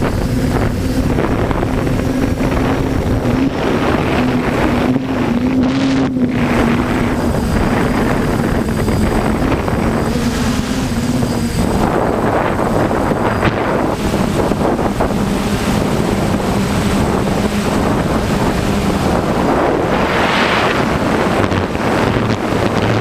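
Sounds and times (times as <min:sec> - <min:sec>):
drone propellers humming: 0:00.0 - 0:23.0
wind buffeting the microphone: 0:00.0 - 0:23.0.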